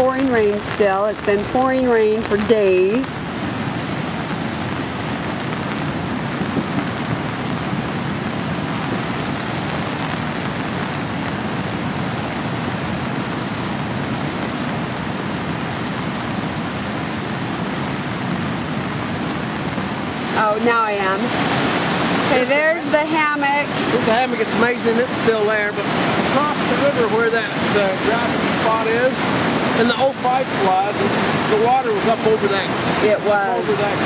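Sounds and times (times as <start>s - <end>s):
heavy rain pouring: 0.0s - 34.0s
rushing flooded creek: 0.0s - 34.0s.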